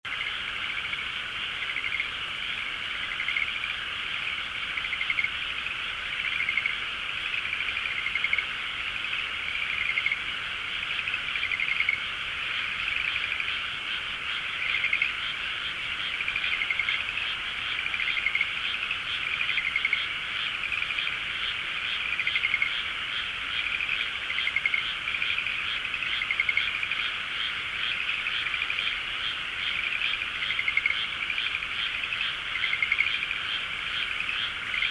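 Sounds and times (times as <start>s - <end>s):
chorus of frogs calling: 0.1s - 34.9s.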